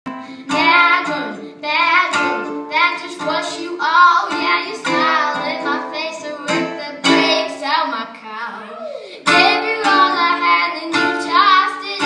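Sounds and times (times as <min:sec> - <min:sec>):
strummed acoustic string instrument: 0:00.1 - 0:08.2, 0:09.2 - 0:12.0
boy singing: 0:00.4 - 0:12.0.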